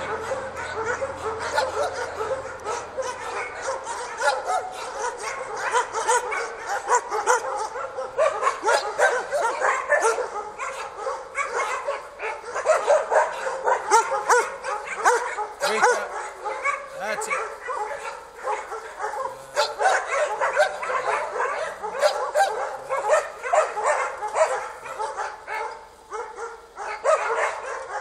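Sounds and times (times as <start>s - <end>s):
many dogs barking and whining: 0.0s - 28.0s.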